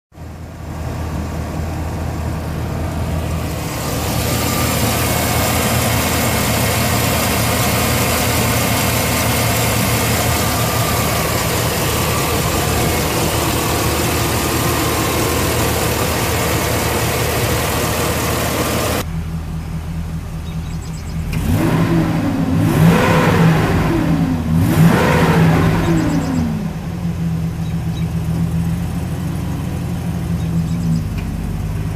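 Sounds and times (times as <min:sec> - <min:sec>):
truck engine idling: 0:00.1 - 0:22.6, 0:23.4 - 0:31.9
engine revving: 0:00.6 - 0:19.1, 0:20.4 - 0:31.9.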